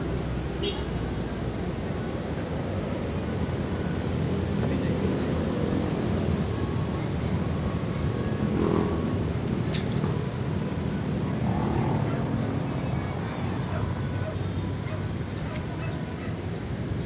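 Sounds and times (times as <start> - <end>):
low rumble of city noise: 0.0 - 17.0.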